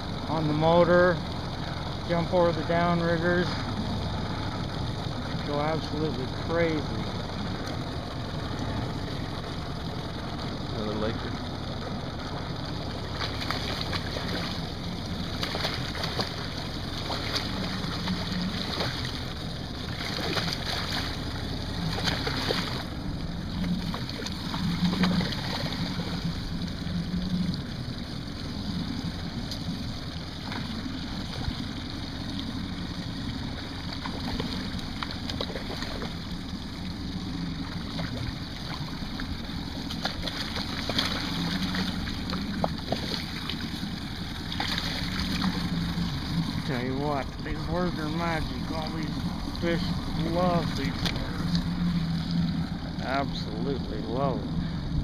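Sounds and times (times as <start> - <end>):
boat motor running: 0.0 - 55.0
fish splashing in water: 1.2 - 55.0.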